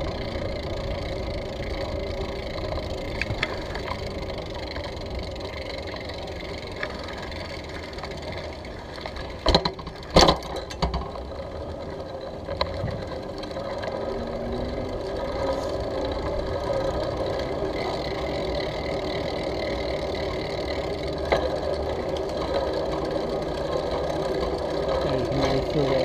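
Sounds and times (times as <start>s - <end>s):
bicycle tyre rumble: 0.0s - 26.0s
bike rattling: 0.0s - 26.0s.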